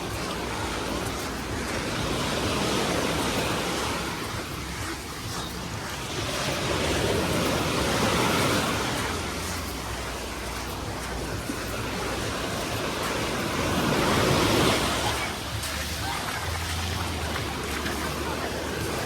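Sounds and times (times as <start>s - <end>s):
small sea waves washing onto beach: 0.0s - 19.0s.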